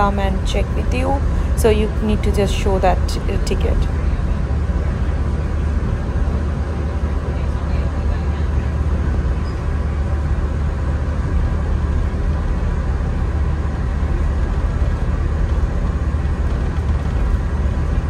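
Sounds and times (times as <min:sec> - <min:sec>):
train rumble inside coach: 0:00.0 - 0:18.0.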